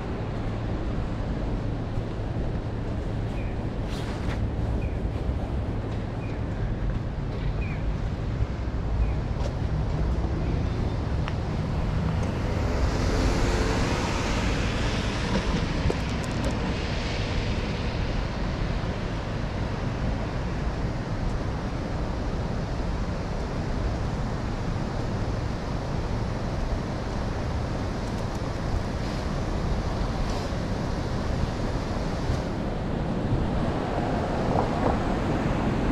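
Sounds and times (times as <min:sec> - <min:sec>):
road traffic: 0:00.0 - 0:35.9.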